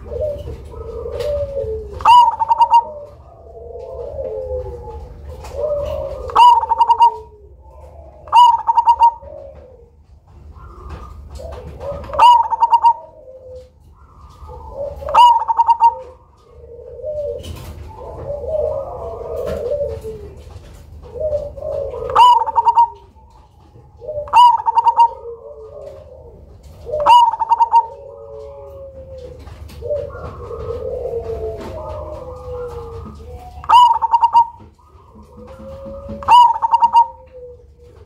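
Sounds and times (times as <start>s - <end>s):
dove cooing song: 0.0s - 38.0s.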